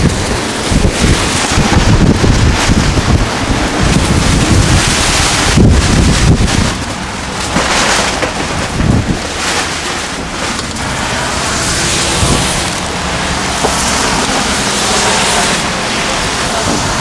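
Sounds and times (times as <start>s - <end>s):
rain: 0.0s - 17.0s
storm wind: 0.0s - 17.0s
vehicle engine running: 0.0s - 17.0s
wind buffeting microphone: 0.0s - 17.0s.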